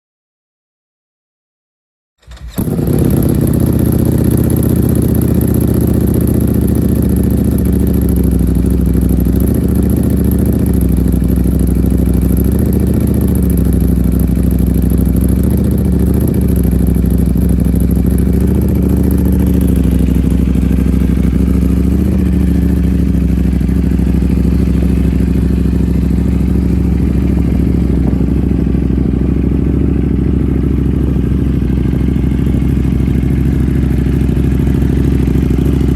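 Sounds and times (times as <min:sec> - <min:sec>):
motorcycle engine idling: 0:02.2 - 0:35.9.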